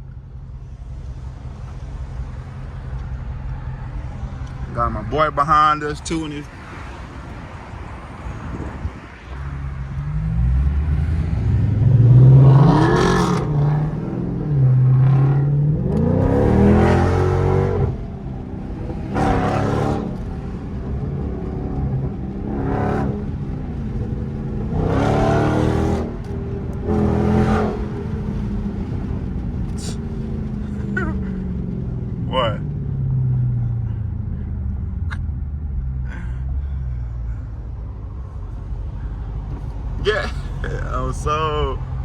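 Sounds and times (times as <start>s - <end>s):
car engine accelerating and revving: 0.0s - 42.0s.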